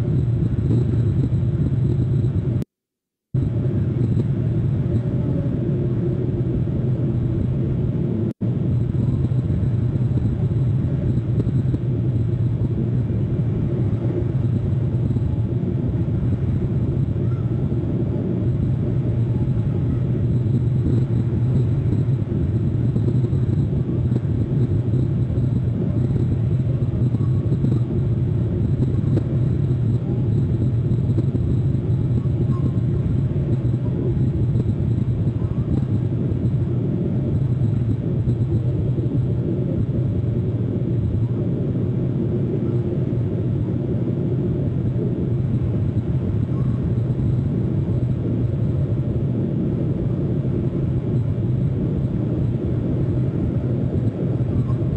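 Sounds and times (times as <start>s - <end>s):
low outdoor background rumble: 0.0s - 2.7s, 3.3s - 54.9s.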